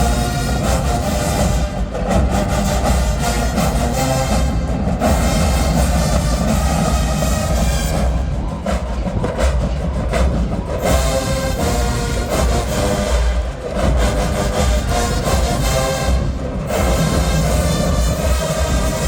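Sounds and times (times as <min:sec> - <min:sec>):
brass section playing: 0:00.0 - 0:08.4, 0:10.8 - 0:19.0
drumline with bass drum hits: 0:00.0 - 0:19.0.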